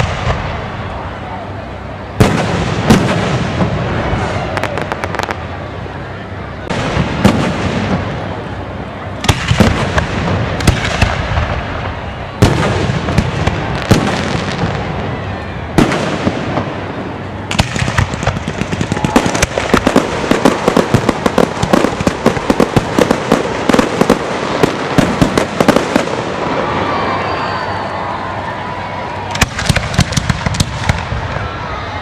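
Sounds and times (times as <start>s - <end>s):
firework booms: 0.0s - 1.0s, 2.2s - 5.6s, 6.7s - 8.5s, 9.2s - 27.2s, 29.3s - 31.4s
crackling firework bursts: 0.0s - 32.0s.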